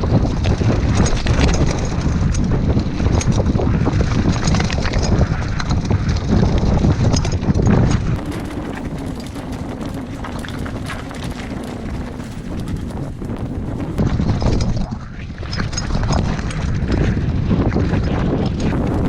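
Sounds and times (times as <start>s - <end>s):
bike clattering and rattling: 0.0s - 19.0s
wind buffeting microphone: 0.0s - 19.0s.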